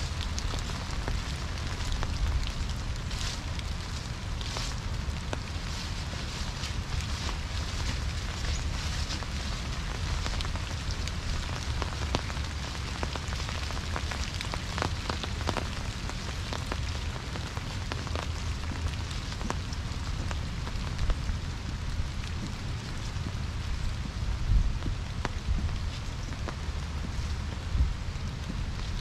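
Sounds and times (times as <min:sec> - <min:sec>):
dry leaves rustling: 0:00.0 - 0:23.9
wind rumble on microphone: 0:00.0 - 0:29.0.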